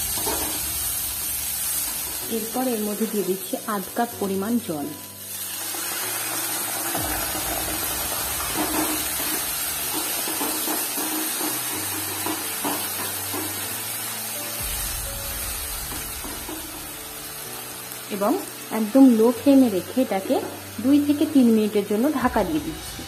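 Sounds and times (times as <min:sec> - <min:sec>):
hissing sizzle of frying oil: 0:00.0 - 0:23.0.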